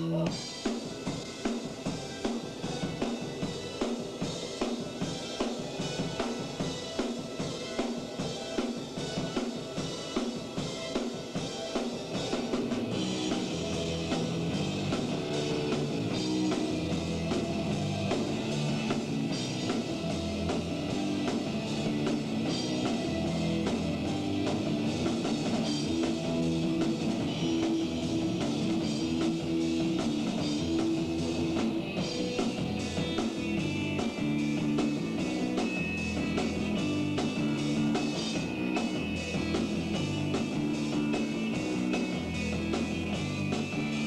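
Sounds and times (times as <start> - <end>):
drum kit: 0.0 - 44.0
electric guitars: 0.0 - 44.0.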